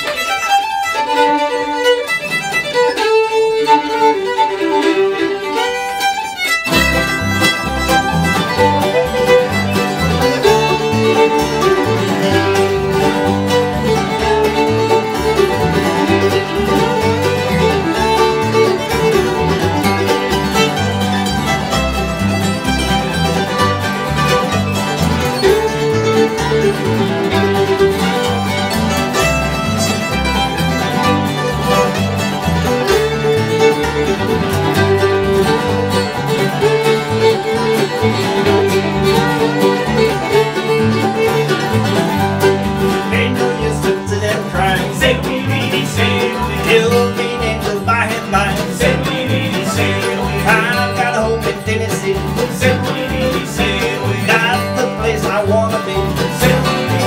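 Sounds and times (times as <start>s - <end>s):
acoustic guitars strumming: 0.0s - 57.0s
banjo: 0.0s - 57.0s
mandolin: 0.0s - 57.0s
plucked upright bass: 6.6s - 57.0s.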